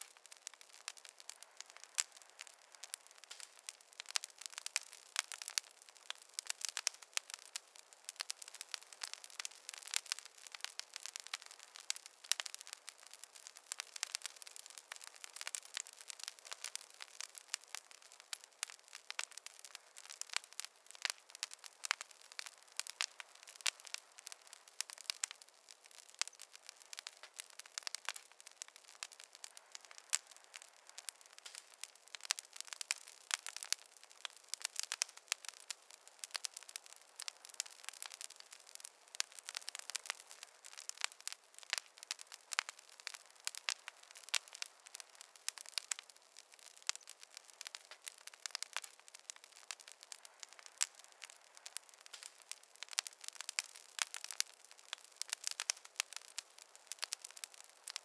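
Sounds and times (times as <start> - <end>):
faint hiss: 0.0 - 58.0
wood fire crackling: 0.0 - 58.0.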